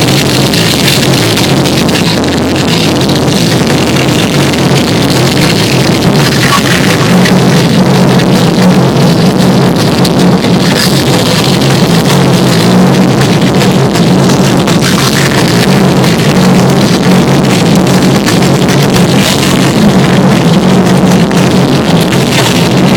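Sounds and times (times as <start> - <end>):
distorted live rock music: 0.0 - 22.9.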